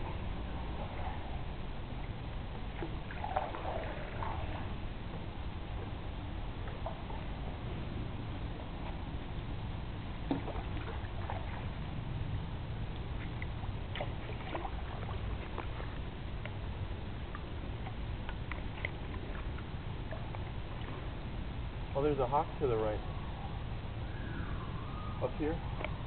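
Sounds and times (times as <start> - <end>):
paddle splashing water: 0.0 - 12.0, 12.8 - 22.0
steady low rumble: 0.0 - 26.0.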